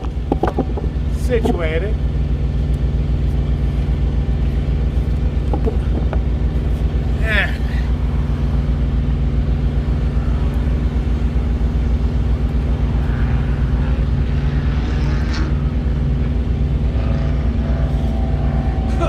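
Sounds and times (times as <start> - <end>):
large diesel engine idling: 0.0 - 19.0.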